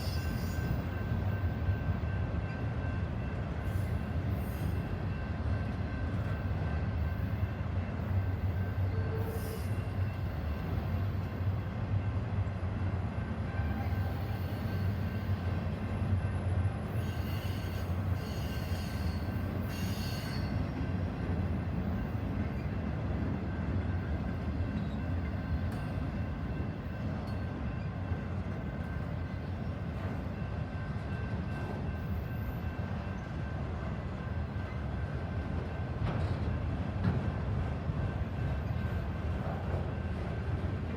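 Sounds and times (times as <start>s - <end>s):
train wheel squeals: 0.0s - 12.2s, 13.2s - 40.7s
freight train rumbling on rails: 0.0s - 40.9s.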